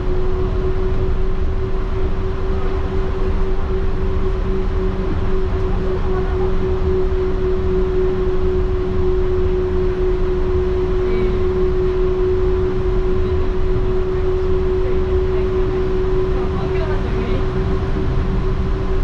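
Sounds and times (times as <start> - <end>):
constant hum: 0.0 - 19.0
train running low rumble: 0.0 - 19.0.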